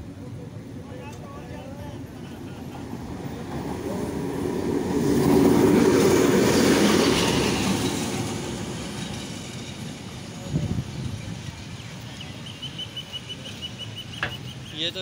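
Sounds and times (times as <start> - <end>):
locomotive passing at speed: 0.2 - 15.0.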